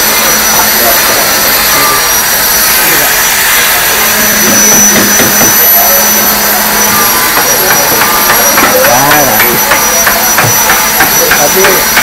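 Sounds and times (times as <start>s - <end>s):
workshop machinery running: 0.0s - 12.0s.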